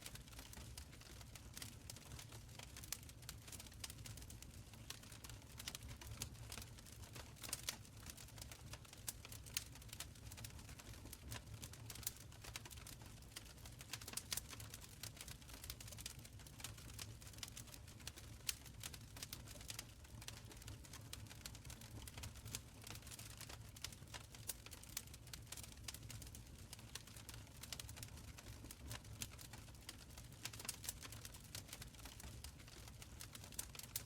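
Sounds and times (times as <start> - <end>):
open fire crackling: 0.0 - 34.0.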